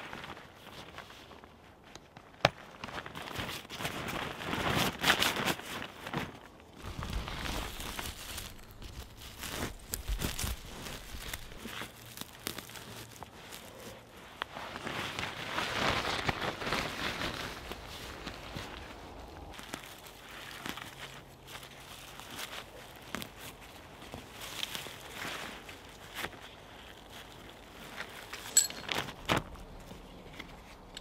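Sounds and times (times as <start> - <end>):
crinkling handling noise: 0.0 - 31.0.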